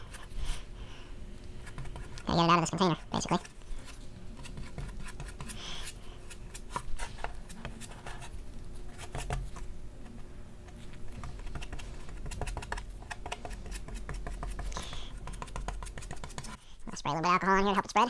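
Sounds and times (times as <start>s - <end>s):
brush scratching and tapping: 1.5s - 16.6s.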